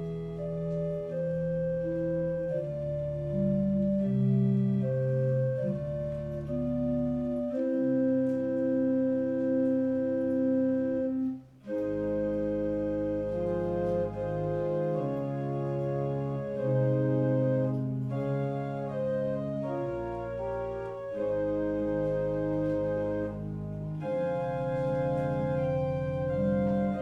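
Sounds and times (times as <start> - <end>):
organ playing slow chords: 0.0 - 27.0.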